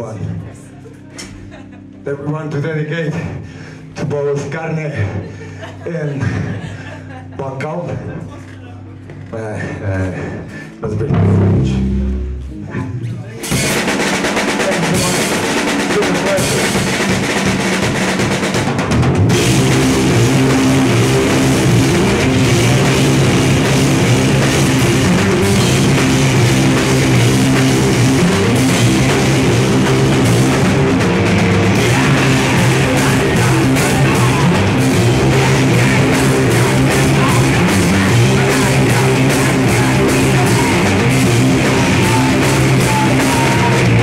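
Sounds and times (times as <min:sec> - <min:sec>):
drums: 0:00.0 - 0:44.0
heavy guitars and bass: 0:00.0 - 0:44.0.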